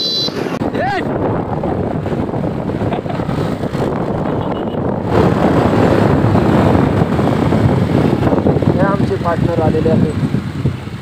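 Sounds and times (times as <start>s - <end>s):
wind rushing over microphone: 0.0s - 11.0s
motorcycle engine at speed: 1.1s - 11.0s.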